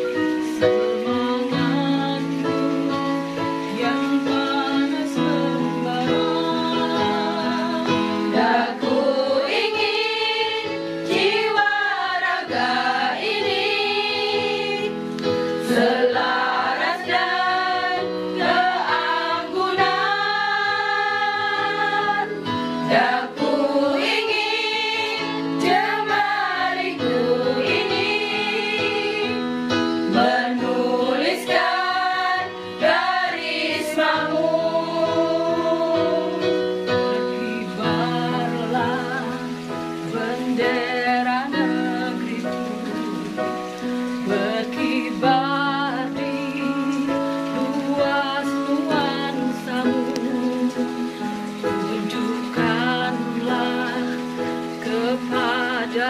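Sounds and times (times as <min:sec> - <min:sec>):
women's choir singing: 0:03.6 - 0:43.3, 0:44.2 - 0:51.2.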